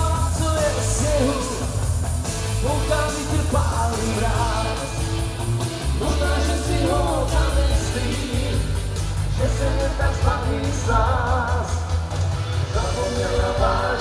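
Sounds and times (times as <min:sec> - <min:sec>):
loud music with singing: 0:00.0 - 0:14.0.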